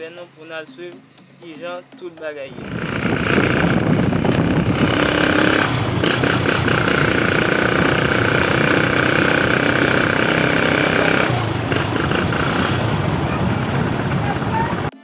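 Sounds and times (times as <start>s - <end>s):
motor vehicle running: 1.4s - 15.0s.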